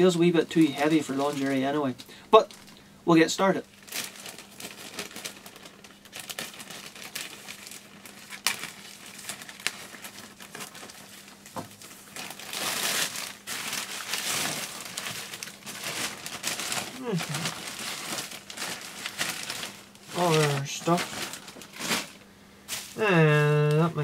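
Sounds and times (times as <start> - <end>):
sharp plastic crackles: 0.0 - 2.9, 3.5 - 24.0
plastic bag crinkling and rustling: 0.0 - 24.0.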